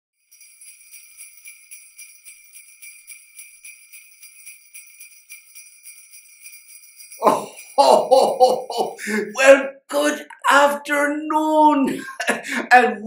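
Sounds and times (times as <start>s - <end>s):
jingle bells shaken: 0.2s - 10.7s.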